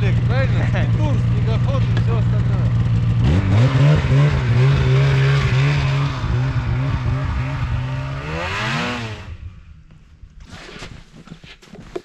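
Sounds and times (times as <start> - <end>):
snowmobile engine revving: 0.0 - 9.7.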